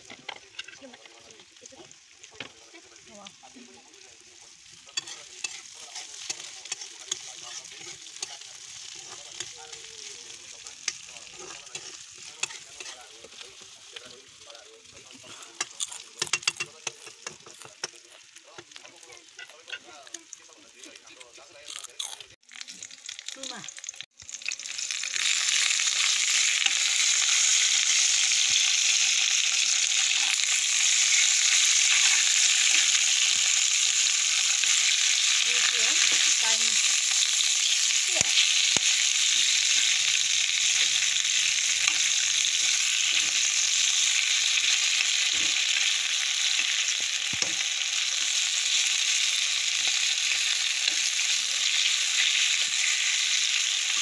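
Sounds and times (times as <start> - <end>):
vegetables sizzling in a pan: 0.0 - 54.0.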